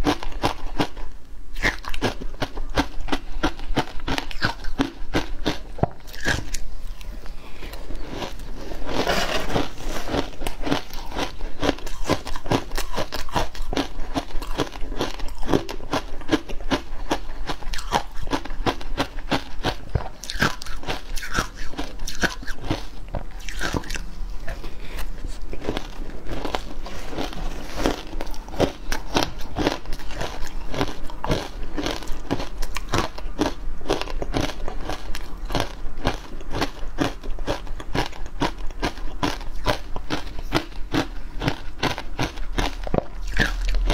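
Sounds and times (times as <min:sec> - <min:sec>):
frozen ice being chewed: 0:00.0 - 0:43.9.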